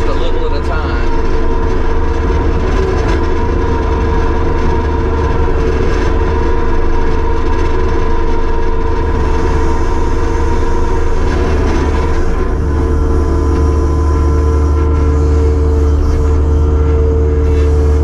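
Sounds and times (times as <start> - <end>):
constant whine: 0.0 - 18.0
diesel engine running: 0.0 - 18.0.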